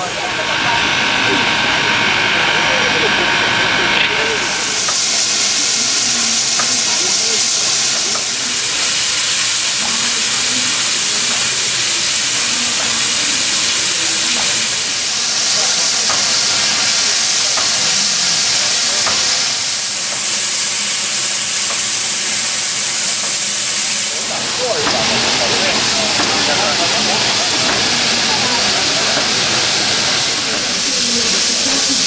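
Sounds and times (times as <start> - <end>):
faint voices: 0.0 - 32.0
steam hissing loudly: 0.0 - 32.0.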